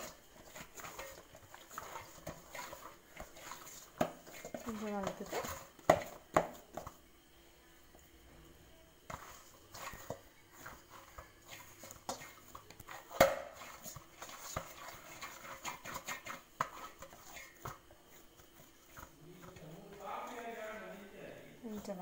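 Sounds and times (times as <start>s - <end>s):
dough slapping against metal bowl: 0.0s - 7.0s, 9.0s - 22.0s.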